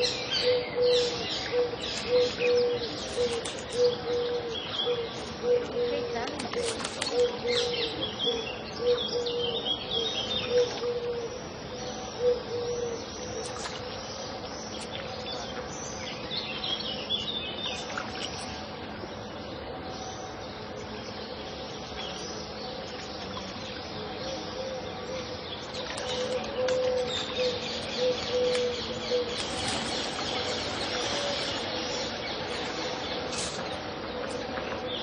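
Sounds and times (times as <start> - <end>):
birds chirping and calling: 0.0 - 35.0
steady background hiss: 0.0 - 35.0.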